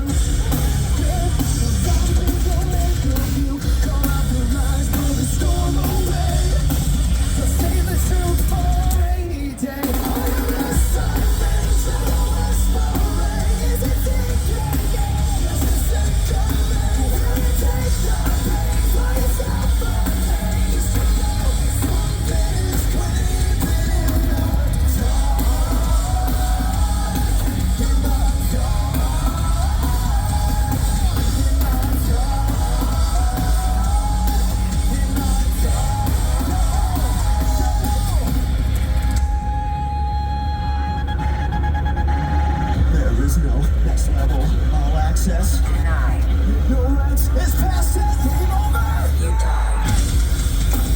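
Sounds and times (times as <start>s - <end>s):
metal band playing live: 0.0s - 50.9s
singer singing and screaming: 0.0s - 50.9s.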